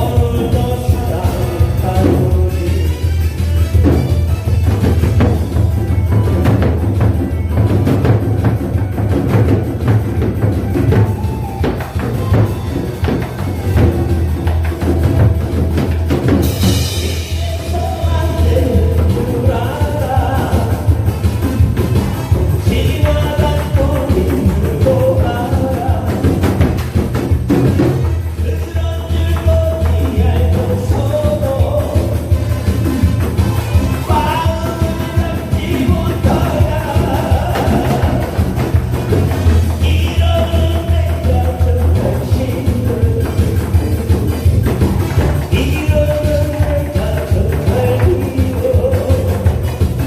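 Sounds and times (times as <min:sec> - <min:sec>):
heavy bass line: 0:00.0 - 0:50.0
loud music with drum beat: 0:00.0 - 0:50.0.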